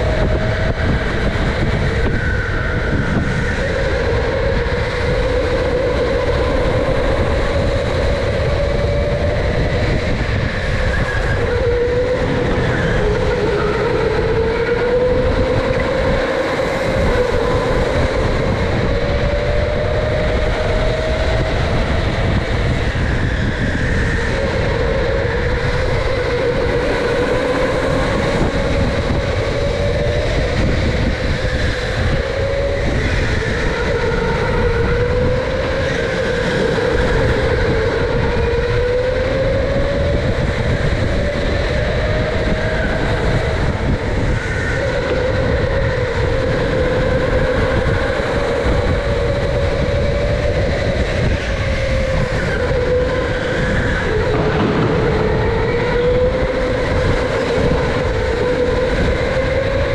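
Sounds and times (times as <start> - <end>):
electric motor whining: 0.0 - 59.9
rumble of tyres and chassis: 0.0 - 59.9.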